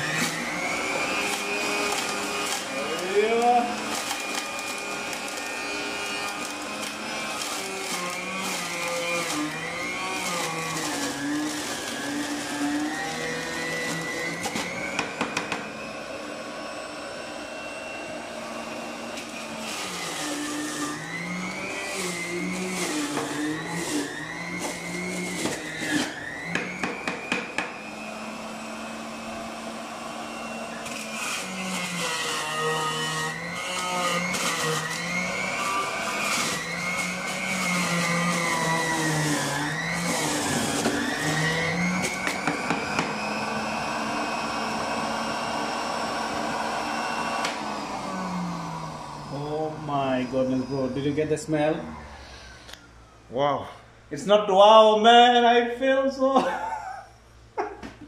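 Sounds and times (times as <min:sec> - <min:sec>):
electric juicer motor whining: 0:00.0 - 0:53.3.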